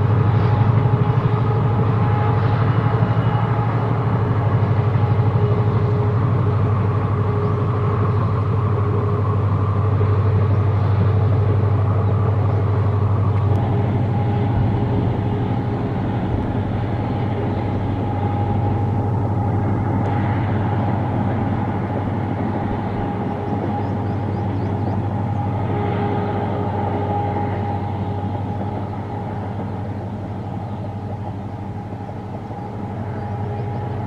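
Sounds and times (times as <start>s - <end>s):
diesel locomotive engine drone: 0.0s - 34.0s.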